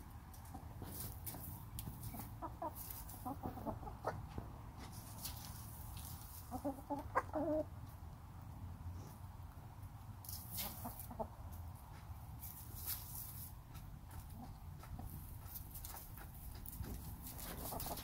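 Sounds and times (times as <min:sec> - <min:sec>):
hens clucking: 0:00.3 - 0:08.2, 0:10.4 - 0:12.6, 0:13.4 - 0:18.0.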